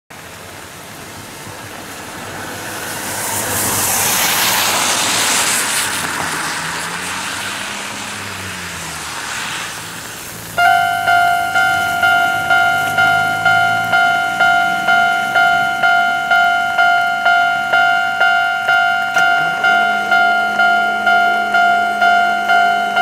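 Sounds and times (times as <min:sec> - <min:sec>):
vehicle passing by: 0:01.0 - 0:23.0.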